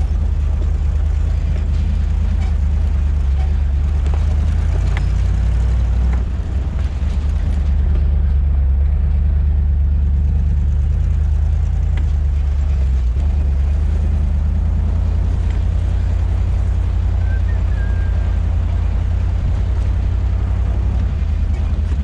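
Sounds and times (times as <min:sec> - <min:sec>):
engine and road noise drone: 0:00.0 - 0:22.0.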